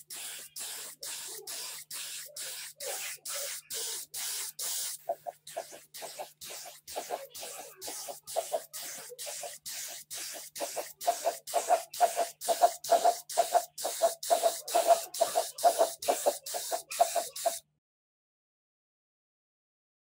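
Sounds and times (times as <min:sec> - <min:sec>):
spray gun hissing: 0:00.0 - 0:17.6.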